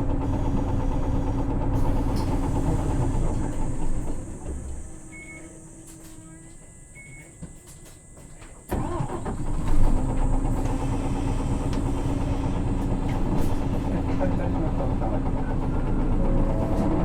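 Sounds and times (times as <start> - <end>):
diesel bus engine starting and idling: 0.0 - 17.0.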